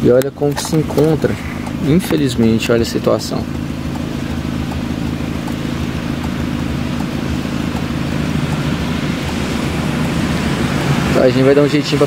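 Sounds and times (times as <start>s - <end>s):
car engine idling: 0.0s - 12.0s
rain hiss: 0.6s - 12.0s.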